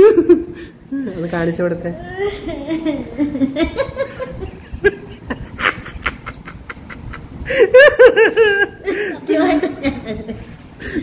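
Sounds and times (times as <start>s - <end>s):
woman laughing: 2.0s - 11.0s.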